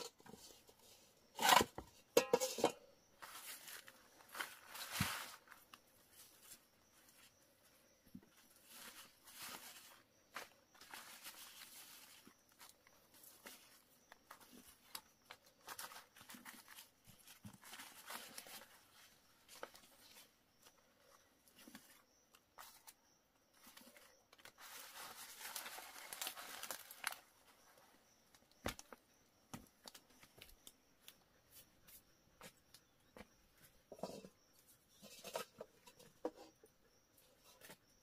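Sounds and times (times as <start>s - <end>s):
faint rustling and crinkling: 0.0s - 38.0s.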